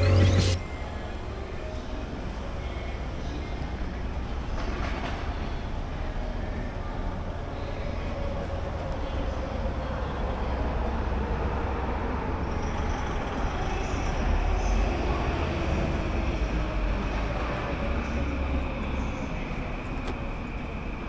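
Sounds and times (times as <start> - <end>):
rumble of vehicles or train: 0.0 - 21.0.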